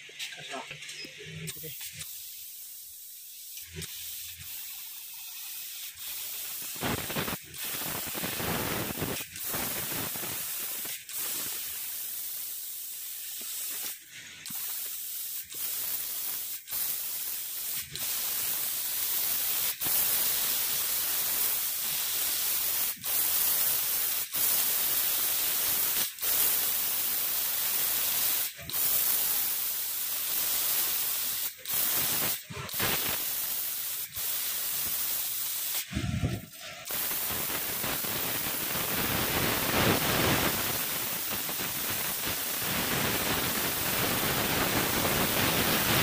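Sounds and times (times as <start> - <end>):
laser cutter air hiss: 0.0 - 46.0.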